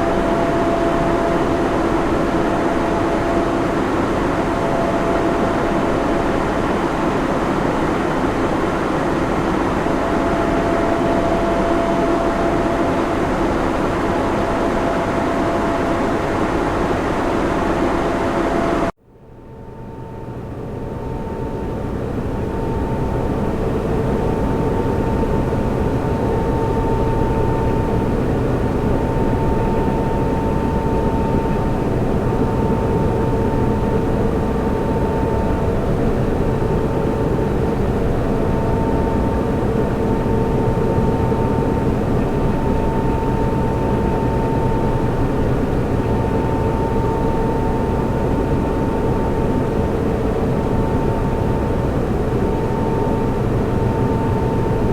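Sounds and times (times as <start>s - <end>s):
cooling fans rushing: 0.0s - 54.9s
thin whine: 0.0s - 54.9s.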